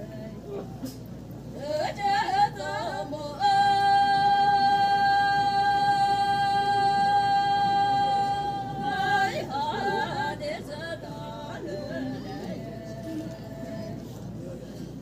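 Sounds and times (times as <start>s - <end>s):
women singing in unison: 1.5s - 14.2s.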